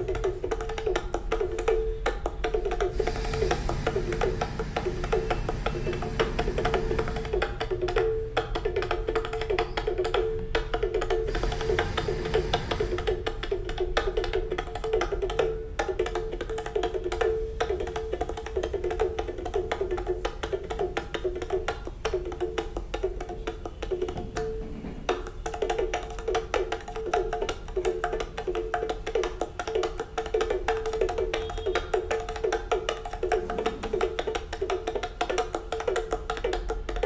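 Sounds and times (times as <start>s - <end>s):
background music with busy percussion: 0.0s - 37.0s.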